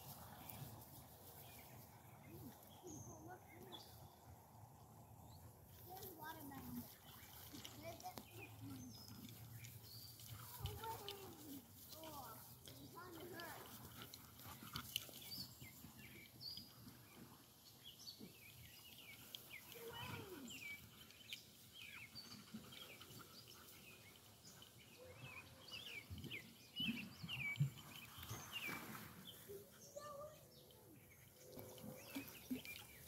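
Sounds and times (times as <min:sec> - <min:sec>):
faint birds chirping: 0:00.0 - 0:33.0.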